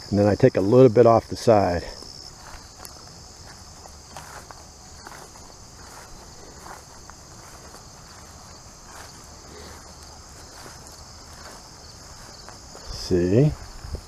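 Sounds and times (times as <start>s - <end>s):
footsteps rustling through grass: 0.0s - 14.0s
insects chirring: 0.0s - 14.0s.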